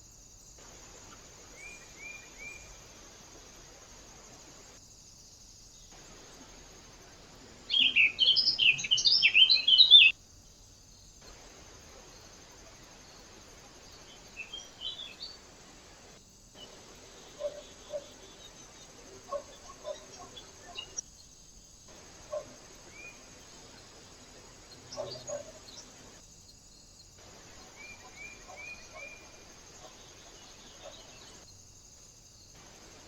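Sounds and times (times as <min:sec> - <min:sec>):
songbird chirping: 0:00.6 - 0:04.8, 0:05.6 - 0:33.0.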